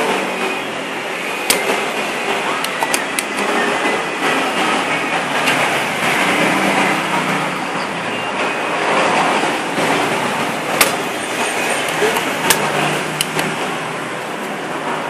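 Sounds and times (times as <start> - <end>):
loud rumble and hiss: 0.0 - 15.0.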